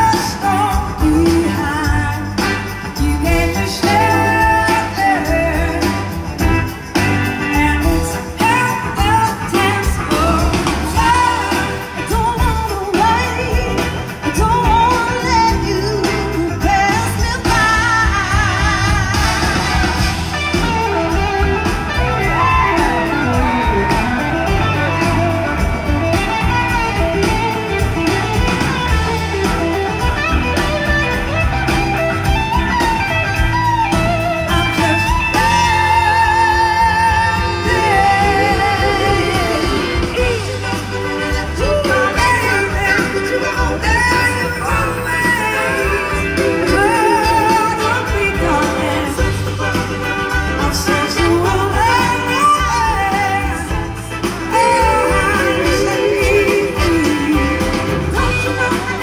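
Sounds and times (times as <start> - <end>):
drums: 0.0 - 59.0
electric guitar: 0.0 - 59.0
live blues rock band: 0.0 - 59.0
person singing: 0.0 - 59.0.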